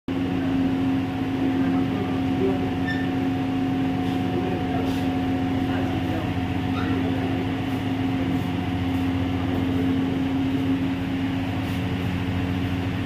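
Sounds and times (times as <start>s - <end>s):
machinery hum: 0.1s - 13.0s.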